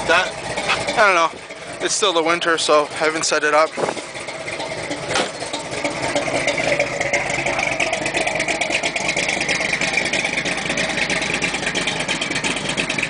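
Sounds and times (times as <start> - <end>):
engine idling with lumpy beat: 0.0 - 13.0.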